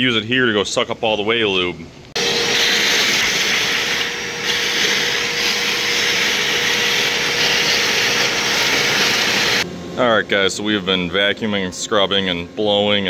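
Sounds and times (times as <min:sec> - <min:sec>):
shop vacuum running: 0:02.2 - 0:13.0.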